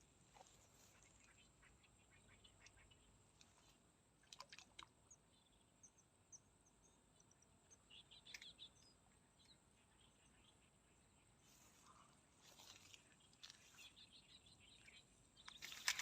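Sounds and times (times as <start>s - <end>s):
faint high bird chirps: 0.0s - 3.8s, 5.0s - 16.0s.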